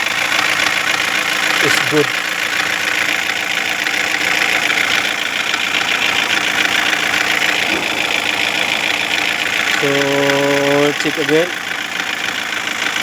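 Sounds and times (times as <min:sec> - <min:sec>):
car engine idling with knocking: 0:00.0 - 0:13.0.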